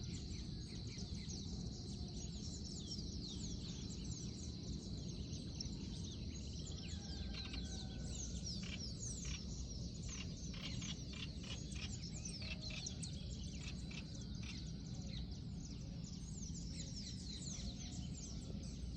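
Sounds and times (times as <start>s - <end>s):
constant low rumble: 0.0s - 18.9s
small birds chirping: 0.0s - 18.9s.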